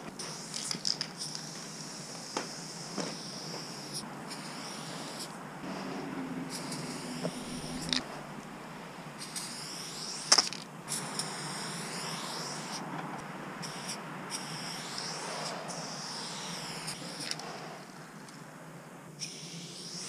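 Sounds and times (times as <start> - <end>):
spray paint can hissing: 0.1 - 8.1, 9.2 - 12.8, 13.6 - 18.4, 19.2 - 20.0.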